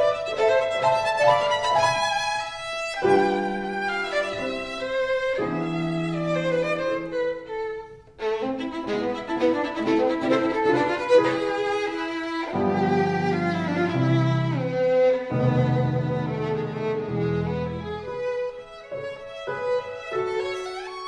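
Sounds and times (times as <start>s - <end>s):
instrumental music with melodic lead: 0.0s - 21.0s.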